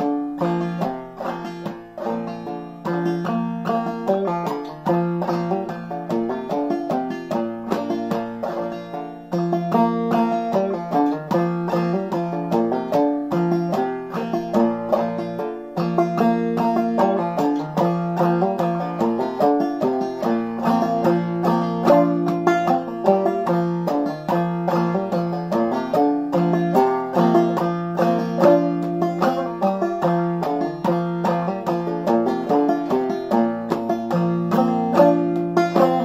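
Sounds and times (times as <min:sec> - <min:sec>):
banjo plucked fiddle tune: 0:00.0 - 0:36.0.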